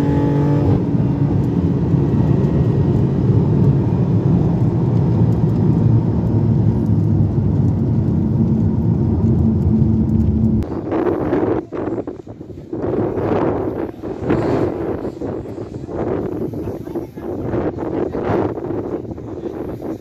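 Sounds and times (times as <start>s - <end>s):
car engine droning: 0.0s - 19.0s
tyre and wind roar: 0.0s - 20.0s.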